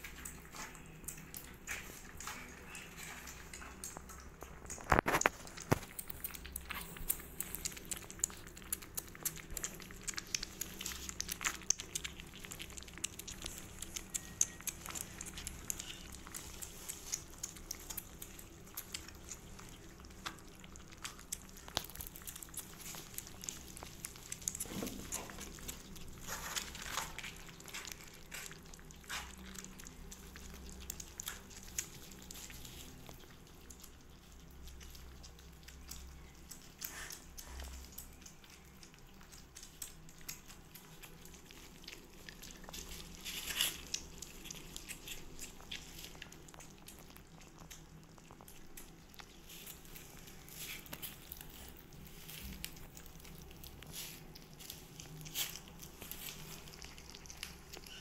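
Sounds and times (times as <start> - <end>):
cat food crunching: 0.0 - 58.0.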